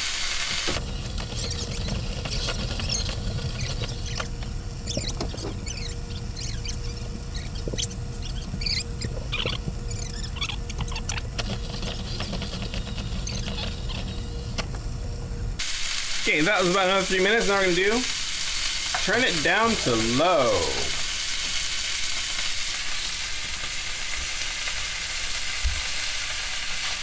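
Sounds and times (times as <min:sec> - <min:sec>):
steak searing in oil: 0:00.0 - 0:27.0.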